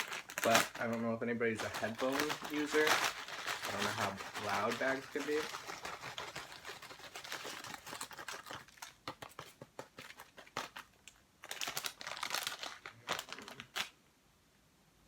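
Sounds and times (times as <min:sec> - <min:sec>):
chip bag crinkling: 0:00.0 - 0:14.0.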